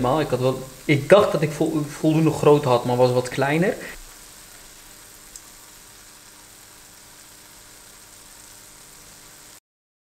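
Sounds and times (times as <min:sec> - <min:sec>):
deep-frying sizzle in oil: 0:00.0 - 0:09.6.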